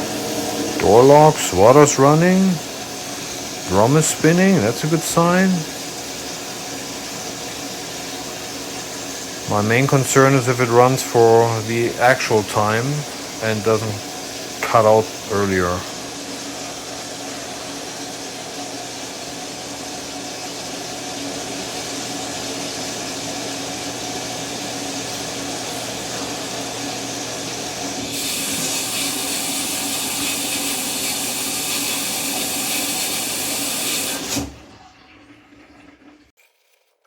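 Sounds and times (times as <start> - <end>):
water hissing in washing machine: 0.0 - 36.3.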